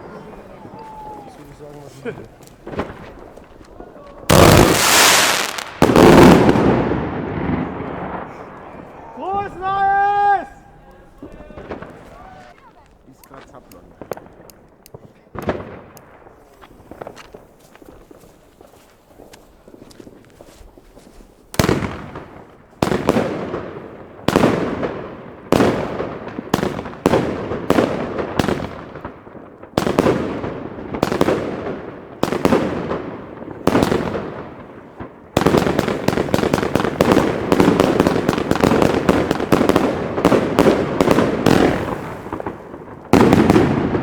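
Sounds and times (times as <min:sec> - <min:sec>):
firework bangs: 0:00.0 - 0:44.0.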